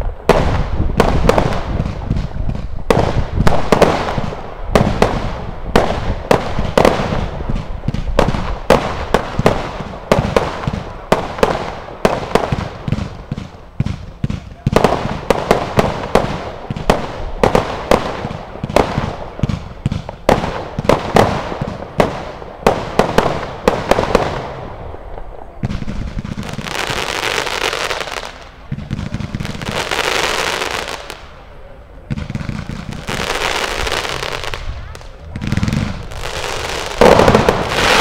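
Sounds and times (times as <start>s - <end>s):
fireworks crackling hiss: 0.0s - 38.0s
fireworks sharp reports: 0.0s - 38.0s.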